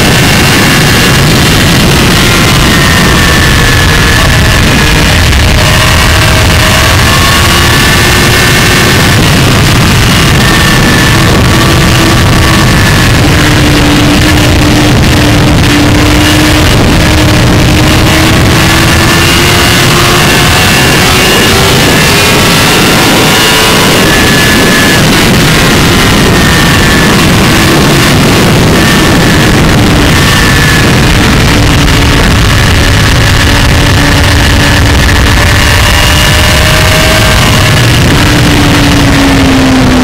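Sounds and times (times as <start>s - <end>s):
motorcycle engine running: 0.0s - 40.0s
wind rush on microphone: 0.0s - 40.0s.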